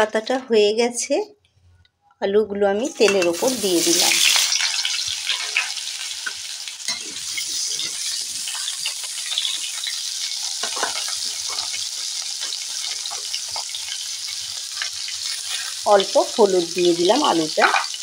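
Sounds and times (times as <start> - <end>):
potatoes sizzling in hot oil: 3.0 - 18.0.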